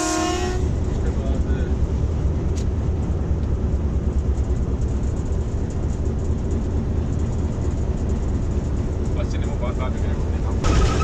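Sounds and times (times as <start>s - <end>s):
locomotive low rumble: 0.0s - 11.0s.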